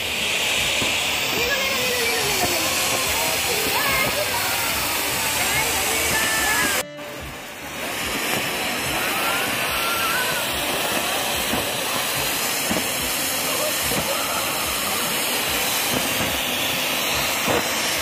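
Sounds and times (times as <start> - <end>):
firework fountain hissing: 0.0 - 18.0.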